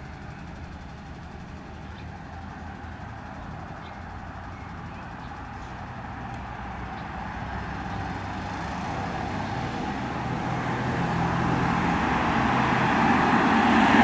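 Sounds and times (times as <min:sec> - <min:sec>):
low engine hum: 0:00.0 - 0:14.0
vehicle approaching: 0:00.0 - 0:14.0.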